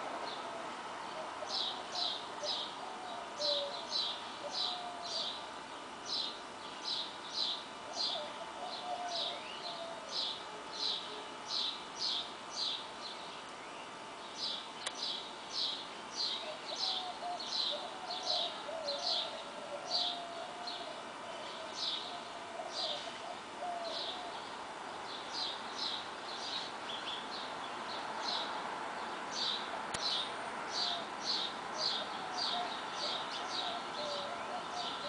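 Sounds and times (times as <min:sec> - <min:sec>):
songbird chirping: 0:00.0 - 0:35.0
lower bird warbling: 0:00.3 - 0:27.4, 0:29.4 - 0:35.0.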